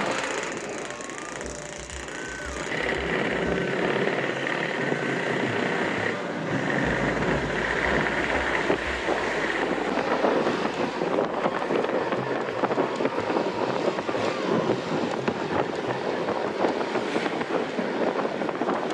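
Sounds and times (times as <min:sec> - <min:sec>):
scooter engine running: 0:00.0 - 0:16.8
high steady whine: 0:00.0 - 0:18.9
road and traffic noise: 0:00.0 - 0:18.9
wind on microphone: 0:00.0 - 0:18.9.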